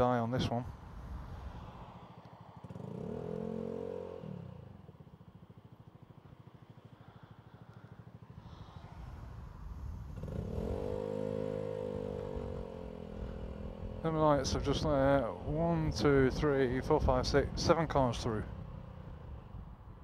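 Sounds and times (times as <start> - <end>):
motorcycle engine idling: 0.7 - 20.0.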